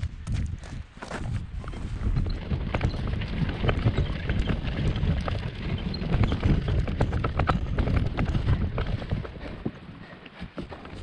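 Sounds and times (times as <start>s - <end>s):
gravel crunching: 0.0s - 11.0s.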